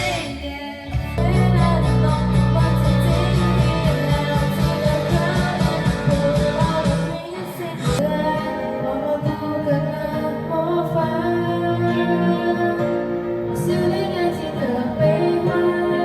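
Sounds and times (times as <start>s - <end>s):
song with singing over guitar: 0.0s - 16.0s.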